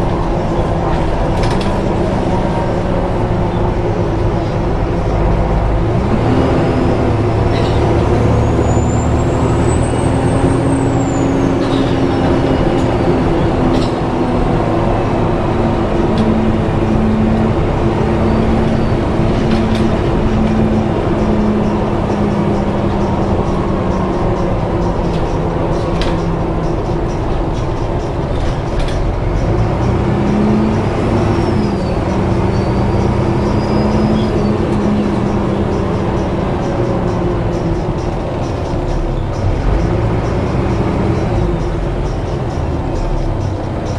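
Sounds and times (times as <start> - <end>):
bus engine and fan drone: 0.0 - 43.9
high-pitched squeal: 6.3 - 43.9.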